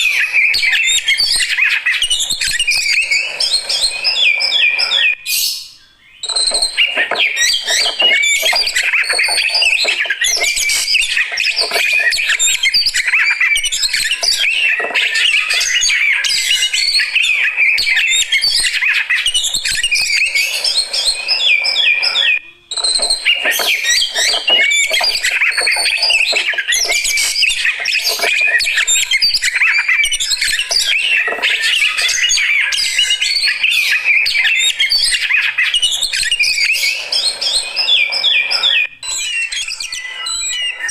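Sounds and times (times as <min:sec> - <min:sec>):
bird singing rapid chirps and whistles: 0:00.0 - 0:40.9.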